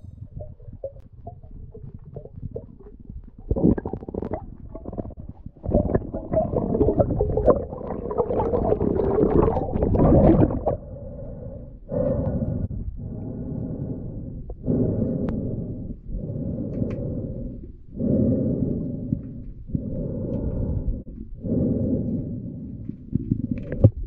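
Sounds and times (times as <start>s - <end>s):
underwater bubbling and gurgling: 0.0s - 24.0s.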